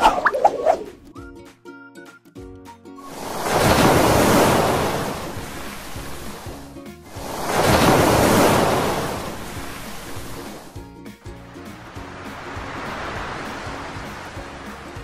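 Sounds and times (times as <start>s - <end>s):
ocean waves washing in: 0.0s - 1.0s, 3.0s - 15.0s
soft background music: 0.6s - 15.0s.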